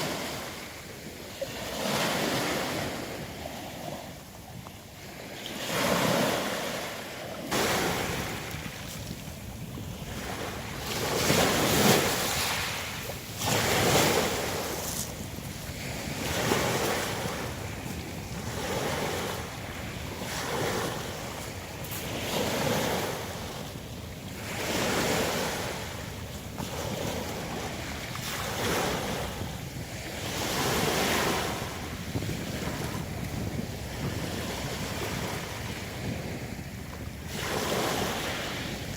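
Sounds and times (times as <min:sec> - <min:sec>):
surf on a pebble beach: 0:00.0 - 0:38.9.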